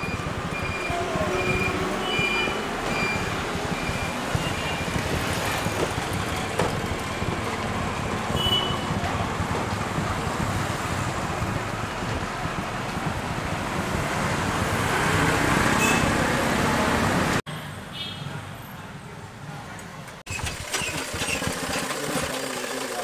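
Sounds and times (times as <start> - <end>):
motor vehicles passing: 0.0 - 20.2.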